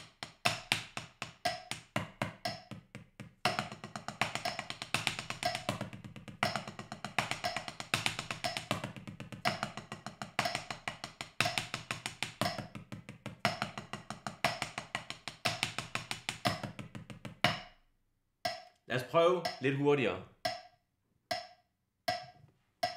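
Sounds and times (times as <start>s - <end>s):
drumsticks on a practice pad: 0.0s - 17.8s, 18.5s - 18.7s, 20.4s - 22.9s.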